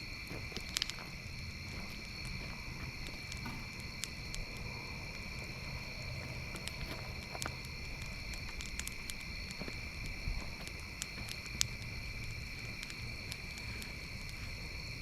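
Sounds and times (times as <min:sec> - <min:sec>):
campfire crackling and popping: 0:00.0 - 0:15.0
night insects droning: 0:00.0 - 0:15.0.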